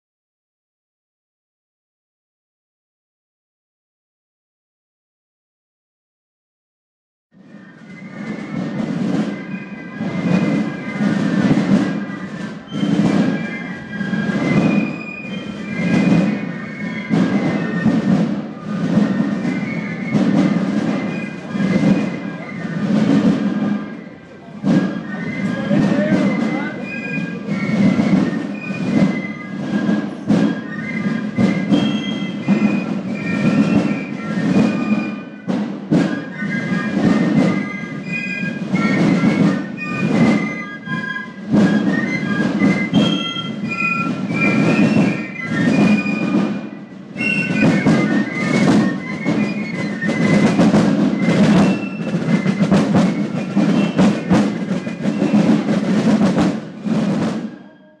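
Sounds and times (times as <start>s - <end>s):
drum rolls and strokes: 7.4s - 58.0s
piccolos playing a melody: 7.9s - 56.1s.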